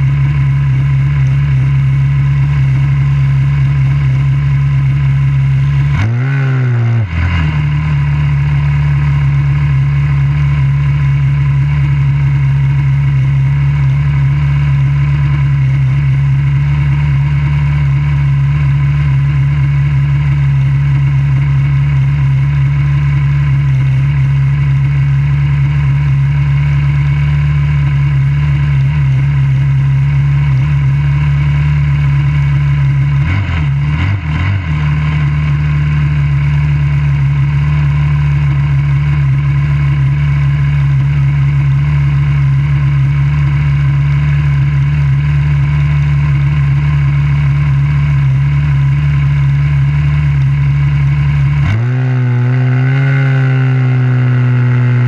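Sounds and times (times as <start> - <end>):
dragster engine idling: 0.0 - 6.0, 7.0 - 55.0
engine revving: 0.0 - 55.0.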